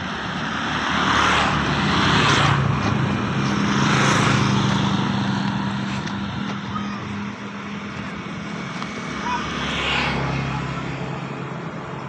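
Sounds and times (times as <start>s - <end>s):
motor scooters passing: 0.0s - 12.0s.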